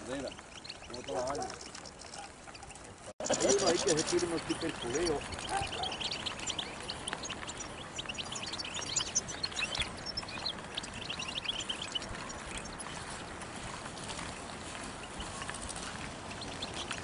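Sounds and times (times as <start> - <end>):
finches twittering: 0.0 - 13.3, 15.0 - 17.0
steady rushing background noise: 0.0 - 17.0.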